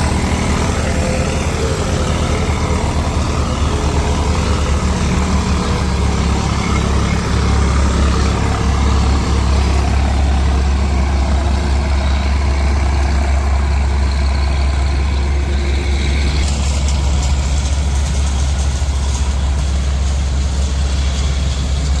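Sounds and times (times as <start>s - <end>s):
diesel engine hum: 0.0s - 22.0s.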